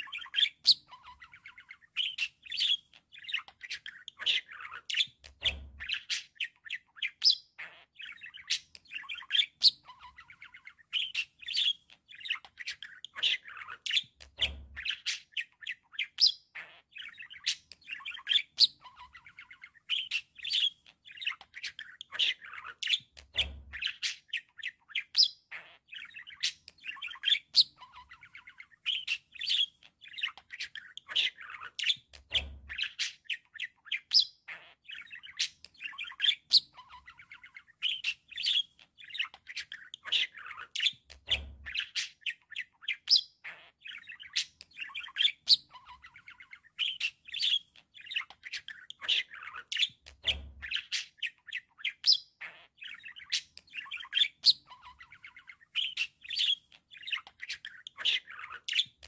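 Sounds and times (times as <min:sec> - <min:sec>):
budgerigars chattering and warbling: 0:00.0 - 0:59.0.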